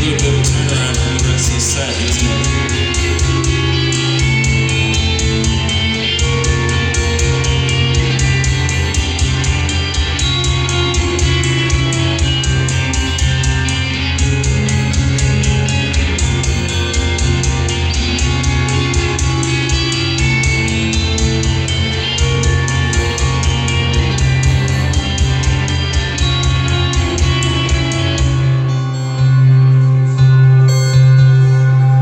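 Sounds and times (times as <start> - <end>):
live heavy metal band: 0.0 - 32.0.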